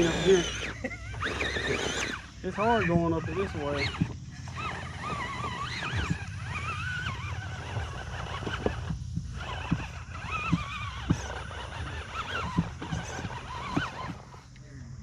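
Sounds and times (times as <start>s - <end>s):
electric motor whining: 0.0s - 15.0s
tires knocking on rock: 1.2s - 15.0s.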